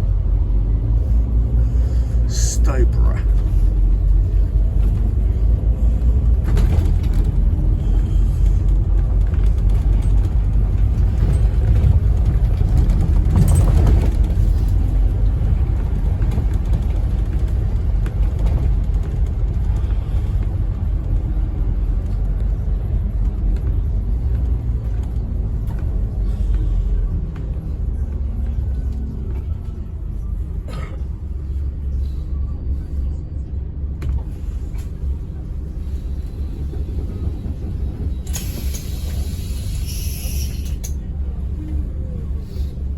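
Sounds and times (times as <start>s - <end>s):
bus diesel engine rumble: 0.0s - 42.9s
road noise: 0.0s - 42.9s.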